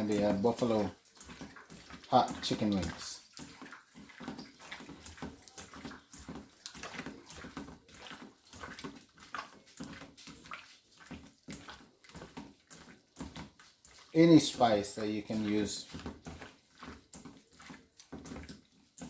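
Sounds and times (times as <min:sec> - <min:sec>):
hands squishing chicken in a bowl: 0:00.0 - 0:19.0.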